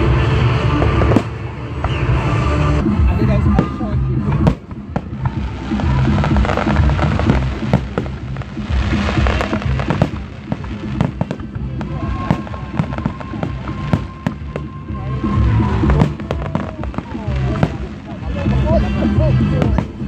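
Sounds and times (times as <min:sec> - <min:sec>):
fireworks bangs and crackles: 0:00.0 - 0:20.0
music playing: 0:00.0 - 0:20.0.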